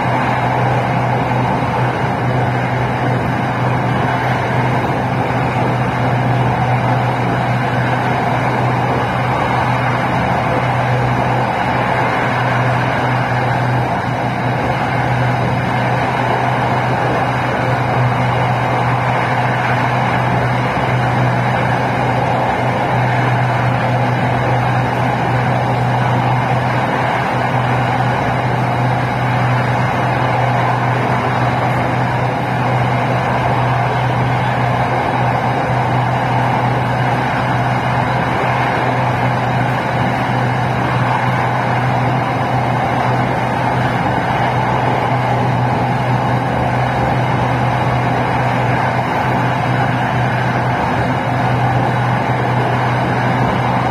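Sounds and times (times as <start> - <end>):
constant low hum: 0.0 - 53.9
train wheels rumbling on rails: 0.0 - 53.9.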